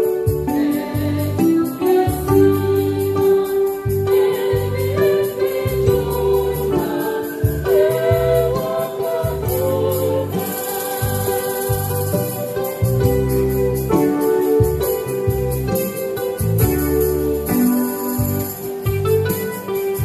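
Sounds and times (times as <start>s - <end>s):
choir singing a hymn: 0.0s - 16.6s
electronic keyboard chords: 0.0s - 20.0s.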